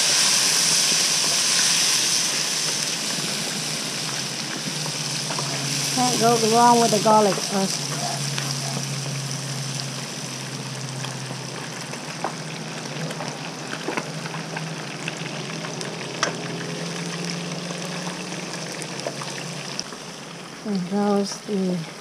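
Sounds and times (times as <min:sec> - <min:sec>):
steady low hum: 0:00.0 - 0:18.5
hot oil sizzling and crackling: 0:00.0 - 0:22.0.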